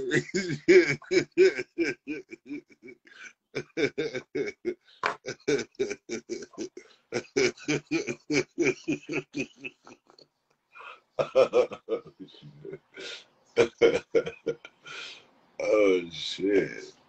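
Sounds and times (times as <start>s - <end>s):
man laughing hard: 0.0s - 10.2s, 11.2s - 15.0s.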